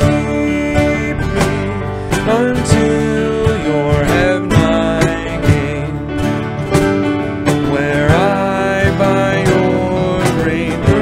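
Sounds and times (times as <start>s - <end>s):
hymn with strummed acoustic guitar: 0.0s - 11.0s.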